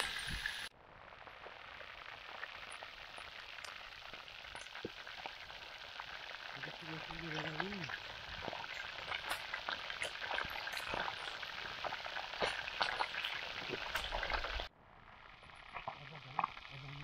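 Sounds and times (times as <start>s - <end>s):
fish sizzling over campfire: 0.0s - 17.0s.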